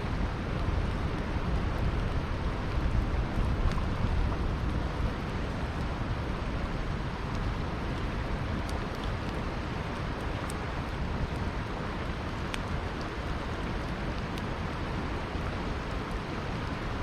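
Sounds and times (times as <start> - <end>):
campfire crackling: 0.0 - 17.0
river flowing: 0.0 - 17.0.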